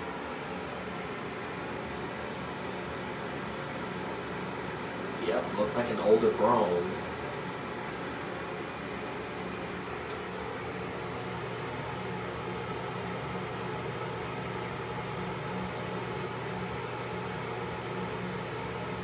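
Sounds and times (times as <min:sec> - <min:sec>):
exhaust fan running: 0:03.2 - 0:19.0.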